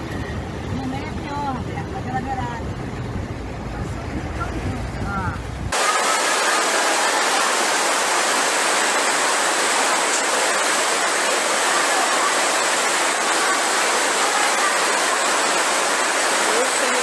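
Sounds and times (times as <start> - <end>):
loud rush of floodwater: 0.0 - 17.0.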